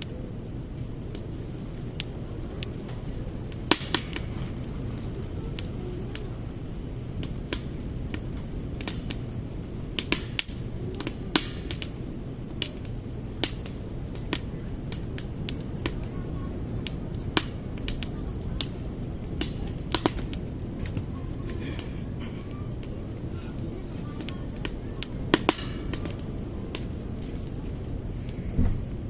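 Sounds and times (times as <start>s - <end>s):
firewood crackling: 0.0s - 29.0s
low fire rumble: 0.0s - 29.0s.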